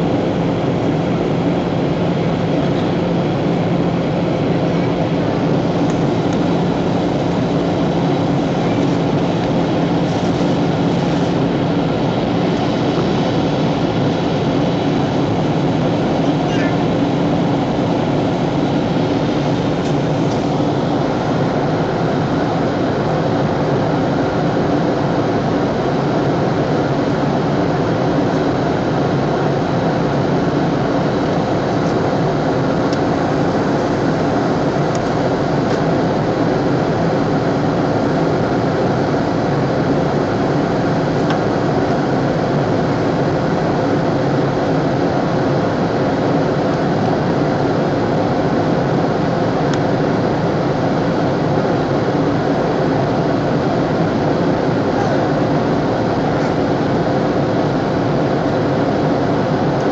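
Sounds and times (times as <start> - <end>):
faint steady hums: 0.0 - 59.9
jet engines and airflow rush: 0.0 - 59.9.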